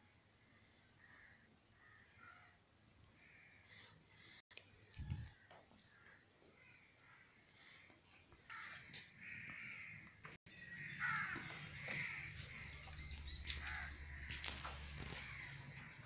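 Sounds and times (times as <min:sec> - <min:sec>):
harsh caw-like bird calls: 0:00.4 - 0:04.4, 0:05.2 - 0:16.0.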